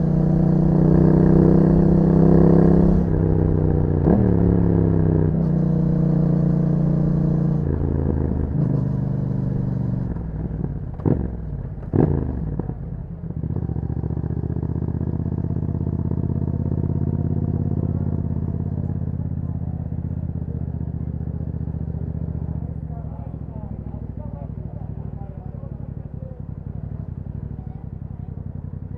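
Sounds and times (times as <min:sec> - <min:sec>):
motorcycle engine revving and idling: 0:00.0 - 0:28.9.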